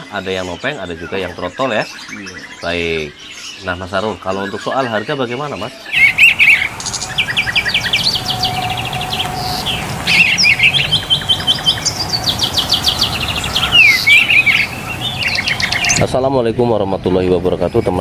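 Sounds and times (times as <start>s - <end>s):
songbird chirping and trilling: 0.0s - 16.2s.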